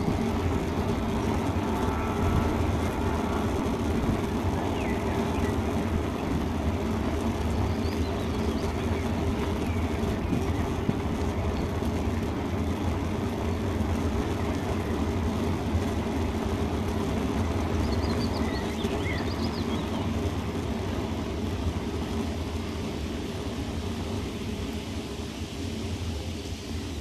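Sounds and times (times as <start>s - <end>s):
bicycle rolling noise: 0.0s - 27.0s
wind rumble: 0.0s - 27.0s.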